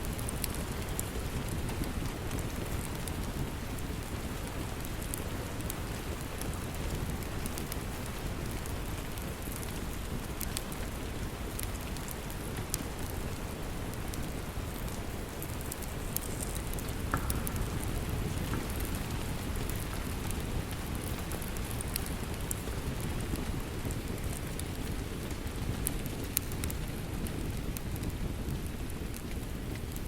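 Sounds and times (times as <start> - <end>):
steady rain falling: 0.0 - 30.0
wood fire crackling: 0.0 - 30.0.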